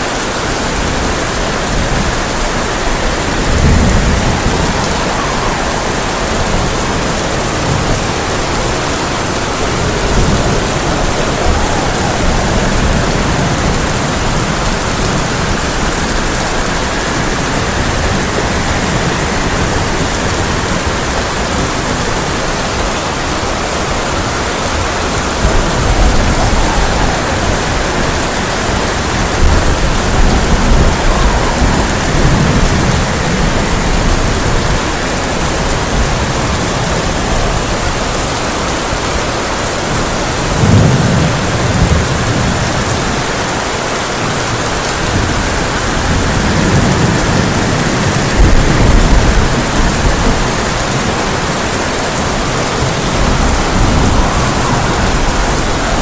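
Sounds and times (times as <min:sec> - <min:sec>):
heavy rain on a tin roof: 0:00.0 - 0:56.0
thunder rumbling: 0:00.0 - 0:56.0.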